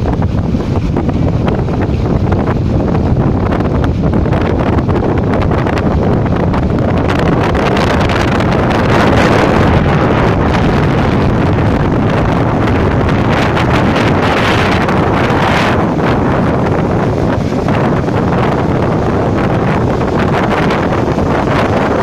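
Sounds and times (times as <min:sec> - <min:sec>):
floodwater rushing: 0:00.0 - 0:22.0
wind buffeting microphone: 0:00.0 - 0:22.0.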